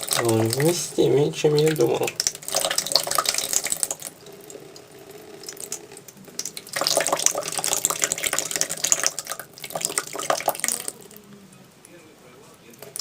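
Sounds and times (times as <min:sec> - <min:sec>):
water jet squirting and splashing: 0:00.0 - 0:11.2.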